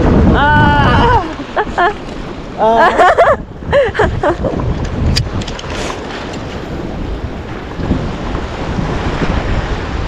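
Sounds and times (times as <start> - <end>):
sea surf rushing: 0.0 - 10.0
wind buffeting microphone: 0.0 - 10.0.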